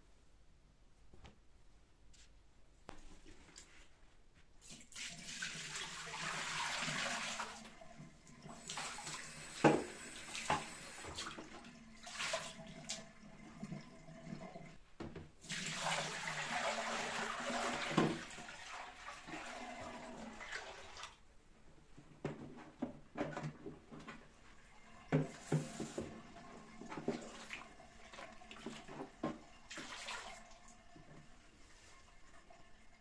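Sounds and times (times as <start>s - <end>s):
tap water running: 4.6s - 21.2s, 22.2s - 33.0s.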